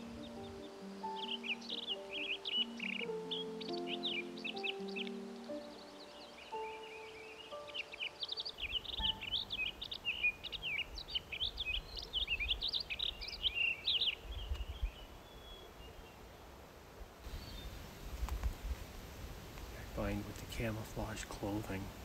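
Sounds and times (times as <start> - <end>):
songbirds twittering: 0.0 - 16.6, 17.2 - 18.5, 19.6 - 22.0.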